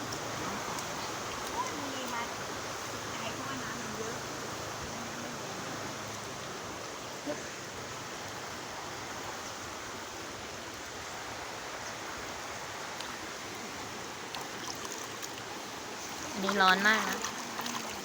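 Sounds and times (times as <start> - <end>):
fast-flowing stream rushing: 0.0 - 18.0.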